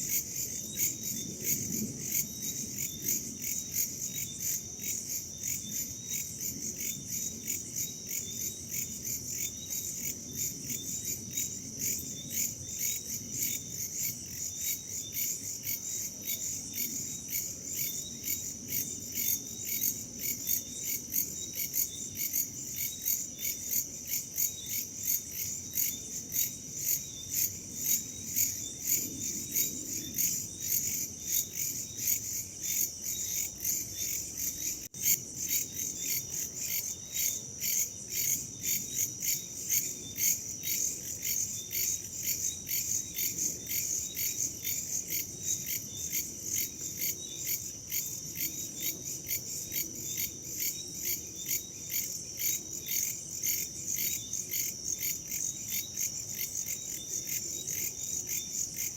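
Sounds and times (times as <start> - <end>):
crickets and insects chirping: 0.0 - 58.9.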